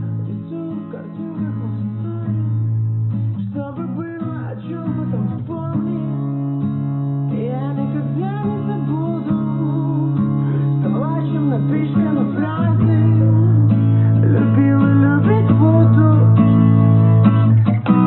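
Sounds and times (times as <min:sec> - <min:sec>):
person singing: 0:00.0 - 0:02.7, 0:03.4 - 0:06.4, 0:07.3 - 0:16.8
strummed acoustic guitar: 0:00.0 - 0:18.0.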